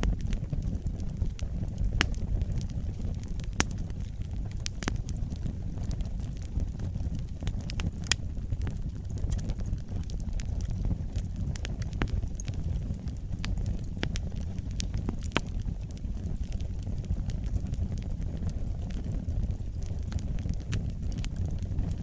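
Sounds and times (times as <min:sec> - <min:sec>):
fire crackling and popping: 0:00.0 - 0:22.0
wood fire rumbling: 0:00.0 - 0:22.0.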